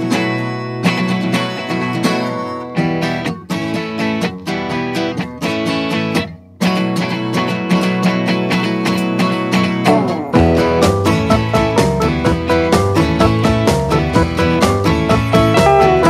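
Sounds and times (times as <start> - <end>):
acoustic guitar plucked and strummed: 0.0 - 16.0.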